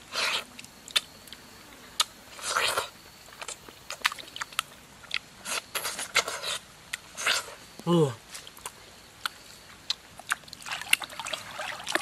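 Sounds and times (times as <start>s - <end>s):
crunching fruit: 0.0s - 12.0s.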